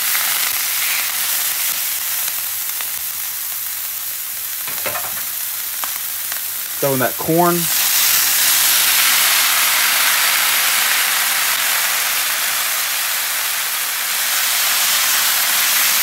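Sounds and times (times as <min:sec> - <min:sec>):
corn sizzling on a griddle: 0:00.0 - 0:16.0.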